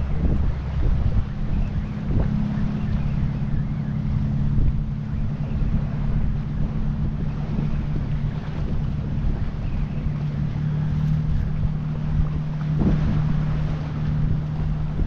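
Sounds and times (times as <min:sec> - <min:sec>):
steady low drone: 0:00.0 - 0:15.0
wind buffeting microphone: 0:00.0 - 0:15.0.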